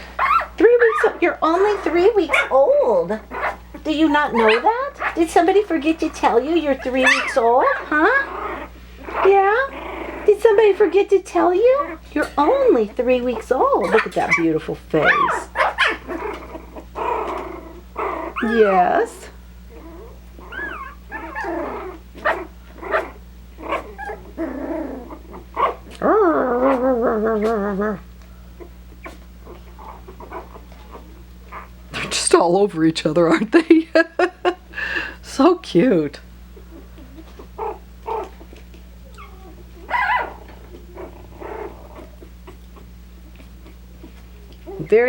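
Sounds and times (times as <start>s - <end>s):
puppies yipping: 0.0s - 11.0s, 11.7s - 19.1s, 19.7s - 26.0s, 28.6s - 31.8s, 36.6s - 45.0s
puppies growling: 0.0s - 45.0s
puppy howling: 0.2s - 19.1s, 19.7s - 28.0s, 28.6s - 31.8s, 36.6s - 45.0s.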